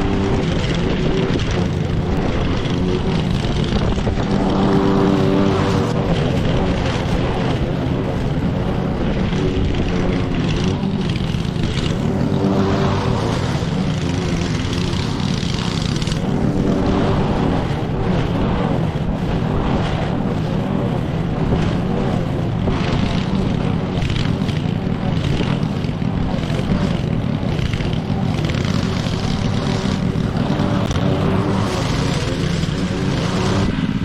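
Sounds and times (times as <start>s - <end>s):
lawn mower engine running: 0.0s - 34.0s.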